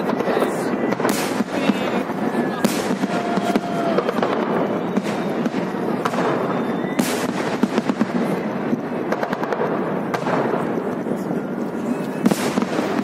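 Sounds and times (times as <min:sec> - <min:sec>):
loud fireworks bang: 0:00.0 - 0:11.2, 0:12.2 - 0:13.0
fireworks crackling and popping: 0:00.0 - 0:13.0.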